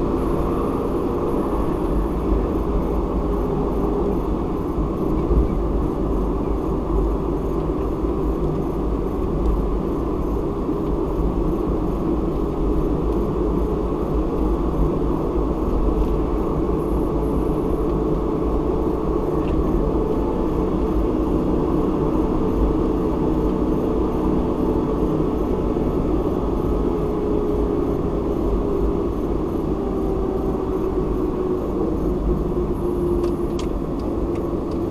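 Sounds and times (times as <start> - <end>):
faint engine drone: 0.0 - 34.9
road and tyre noise: 0.0 - 34.9.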